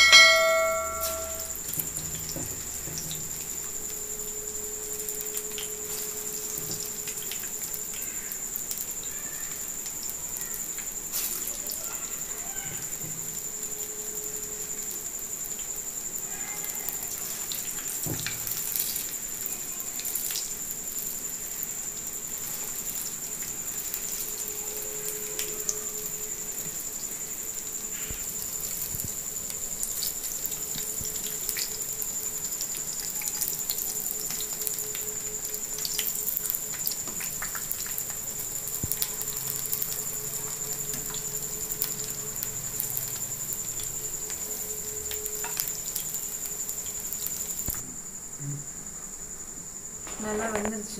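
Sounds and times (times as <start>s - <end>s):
deep-frying sizzle with crackles: 0.0s - 50.9s.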